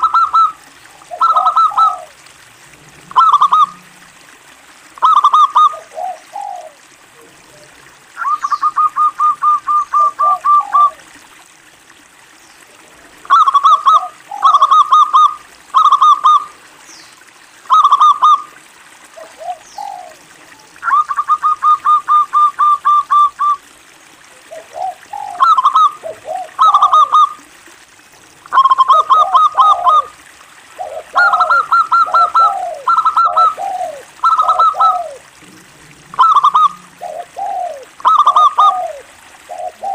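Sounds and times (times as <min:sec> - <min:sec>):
dove cooing: 0:00.0 - 0:02.2, 0:03.0 - 0:04.2, 0:05.0 - 0:11.1, 0:13.2 - 0:16.5, 0:17.7 - 0:18.4, 0:19.2 - 0:23.6, 0:24.4 - 0:27.4, 0:28.5 - 0:39.9.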